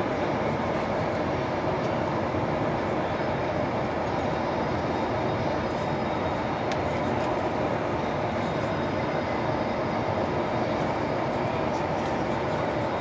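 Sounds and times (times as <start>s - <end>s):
airplane cabin noise: 0.0s - 13.0s.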